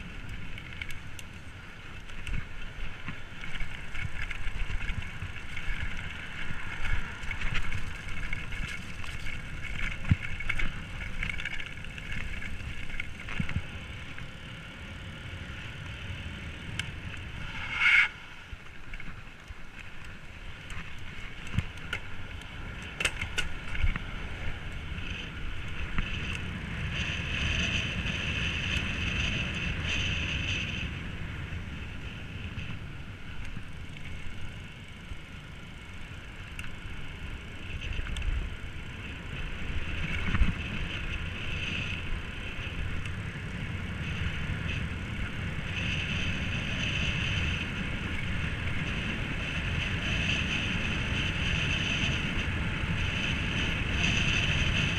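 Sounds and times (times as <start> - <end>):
wind rush on microphone: 0.0 - 35.1, 37.0 - 54.9
high motor whine: 0.0 - 54.9
tyre noise on pavement: 0.0 - 54.9.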